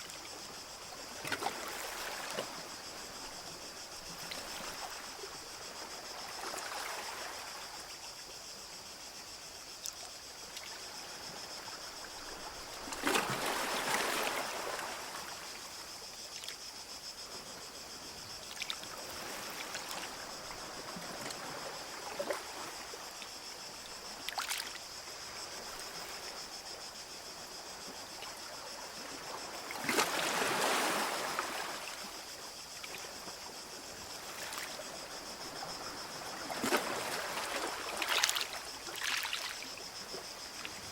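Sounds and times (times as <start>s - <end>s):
small waves lapping on beach: 0.0s - 8.4s, 9.5s - 40.9s.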